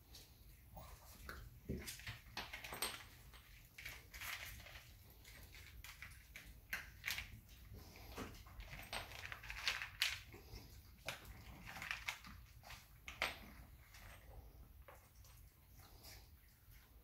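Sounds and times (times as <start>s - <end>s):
puppy crunching dry kibble: 1.0s - 16.5s.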